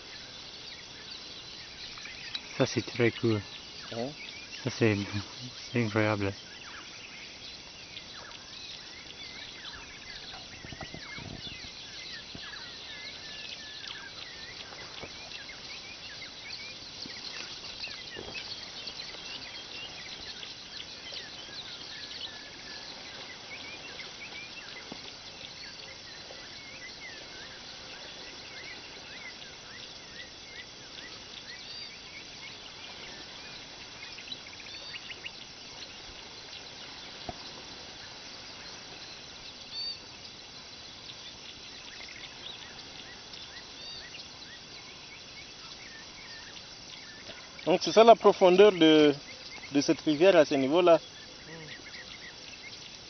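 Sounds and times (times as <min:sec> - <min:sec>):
high insect drone: 0:00.0 - 0:53.0
small birds chirping: 0:00.0 - 0:53.0.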